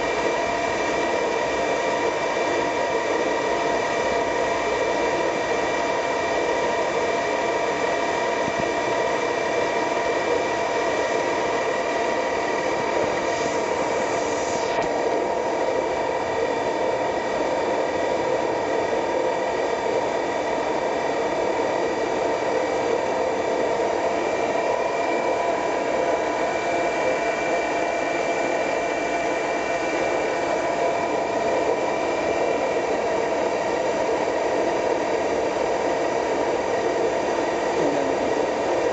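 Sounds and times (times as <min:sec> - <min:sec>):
machine hum and whine: 0:00.0 - 0:38.9.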